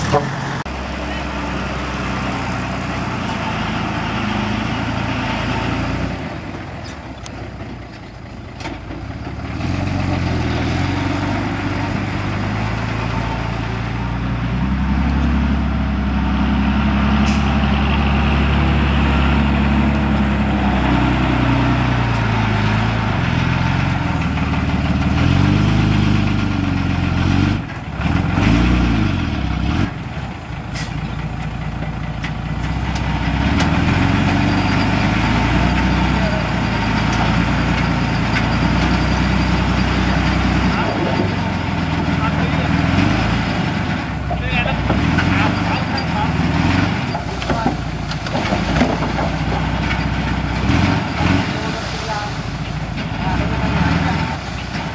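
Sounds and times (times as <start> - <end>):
heavy diesel engine revving: 0.0 - 7.3, 9.2 - 54.9.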